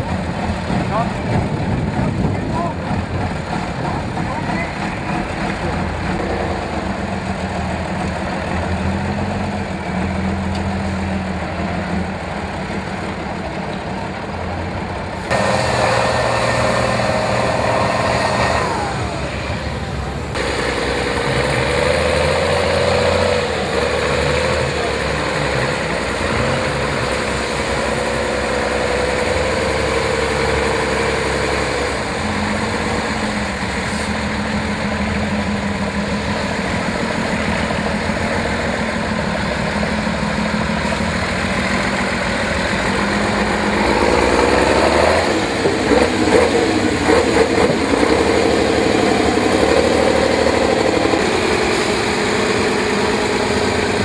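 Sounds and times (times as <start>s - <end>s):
truck engine revving under load: 0.0s - 54.0s.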